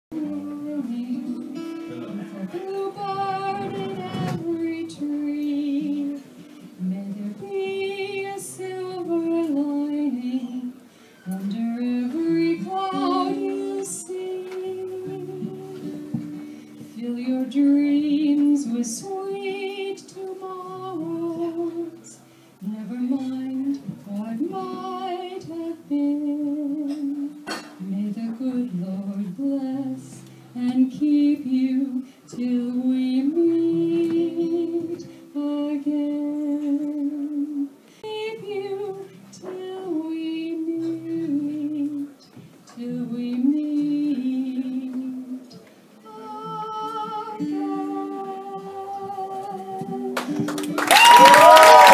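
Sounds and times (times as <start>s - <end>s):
soft guitar accompaniment: 0.1s - 51.9s
woman singing slow song: 0.1s - 51.9s.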